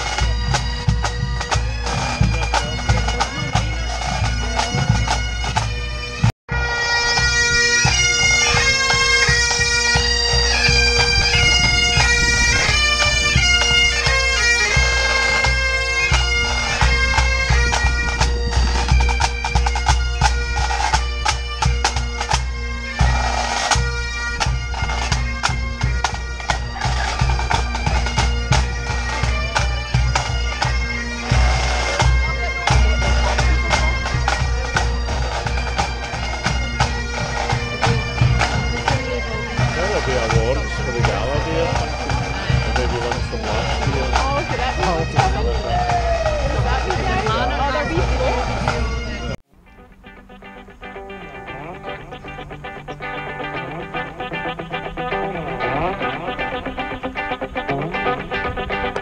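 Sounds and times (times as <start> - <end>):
marching drums beating: 0.0 - 49.4
bagpipes playing melody: 0.0 - 49.5, 50.1 - 59.0.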